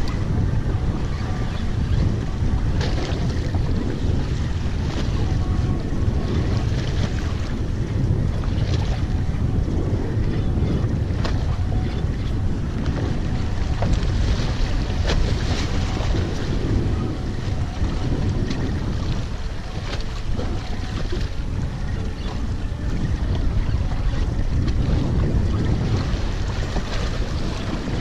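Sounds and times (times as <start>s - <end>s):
water rumbling against hull: 0.0s - 28.0s
wind buffeting microphone: 0.0s - 28.0s.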